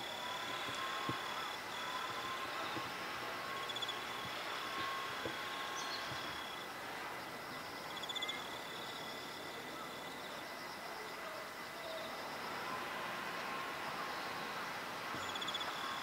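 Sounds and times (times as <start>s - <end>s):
insects chirping in high trills: 0.0s - 16.0s
outdoor hiss: 0.0s - 16.0s.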